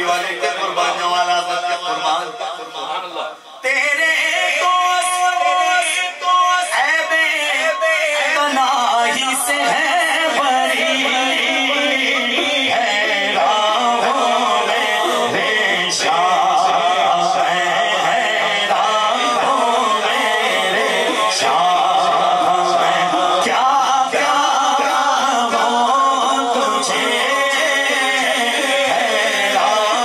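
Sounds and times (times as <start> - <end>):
men singing devotional chant: 0.0 - 30.0.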